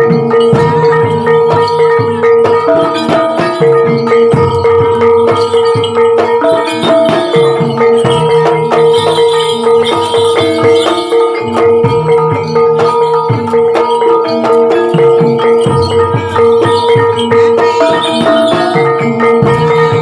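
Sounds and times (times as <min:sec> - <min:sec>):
drum strokes: 0:00.0 - 0:20.0
gamelan music: 0:00.0 - 0:20.0.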